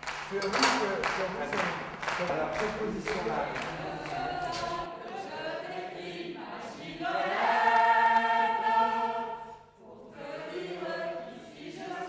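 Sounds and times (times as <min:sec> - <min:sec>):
choral singing: 0:00.3 - 0:12.0.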